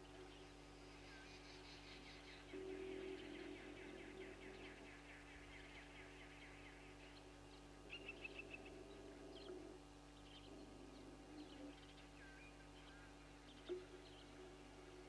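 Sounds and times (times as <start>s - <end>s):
low steady hum: 0.0s - 15.0s
bird chirps: 0.1s - 15.0s.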